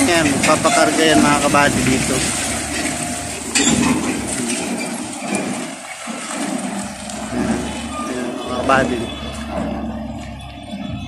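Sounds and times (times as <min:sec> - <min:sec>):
tires on gravel: 0:00.0 - 0:11.0
truck engine drone: 0:00.0 - 0:11.0.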